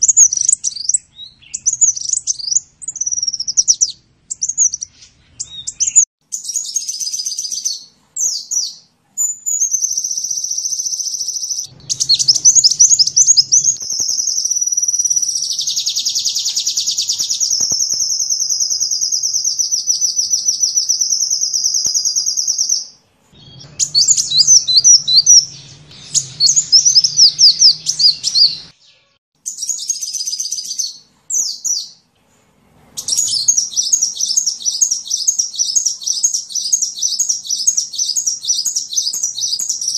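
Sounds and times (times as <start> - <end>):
sunbird trilling and chirping: 0.0 - 32.0, 33.0 - 39.9.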